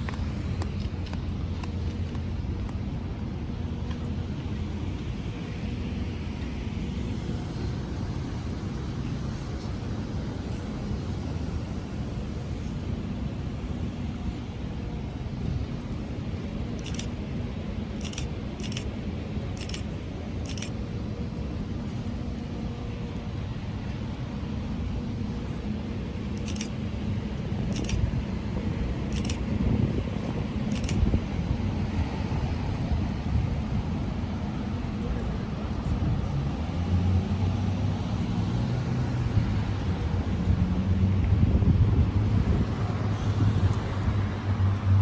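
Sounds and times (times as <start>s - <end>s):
low traffic rumble: 0.0s - 45.0s.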